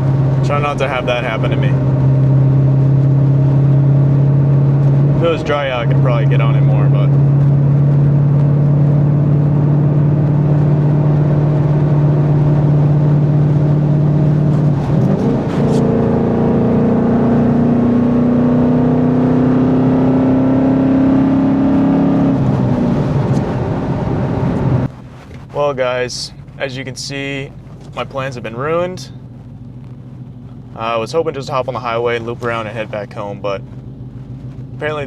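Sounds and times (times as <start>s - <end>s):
car engine exhaust: 0.0s - 35.0s.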